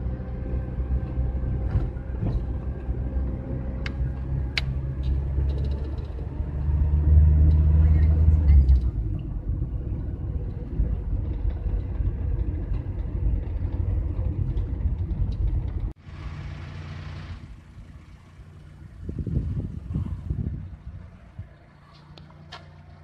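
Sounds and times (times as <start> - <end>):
quiet outdoor background: 0.0 - 23.0
van engine and road rumble: 0.0 - 23.0.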